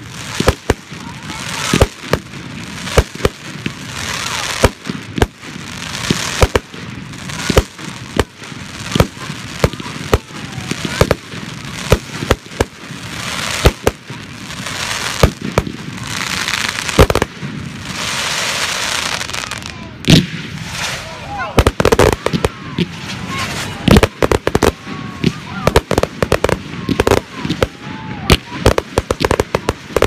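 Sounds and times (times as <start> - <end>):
hissing crackle: 0.0 - 30.0.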